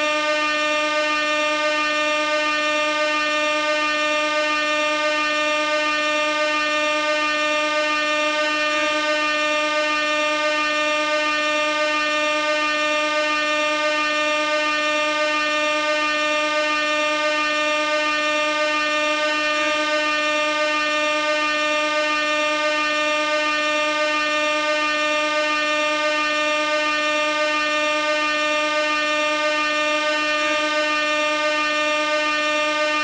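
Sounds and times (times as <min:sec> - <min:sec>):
air horn blast: 0:00.0 - 0:33.0.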